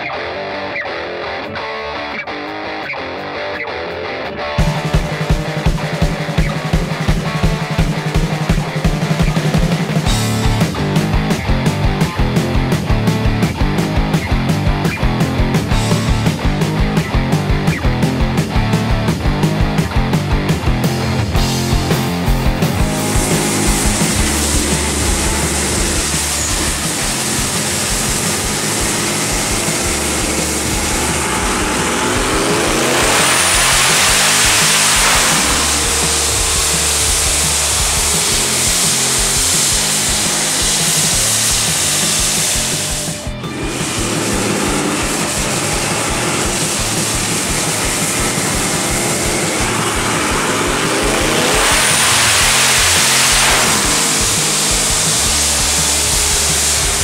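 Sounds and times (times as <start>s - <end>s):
engine running under load: 4.6s - 57.0s.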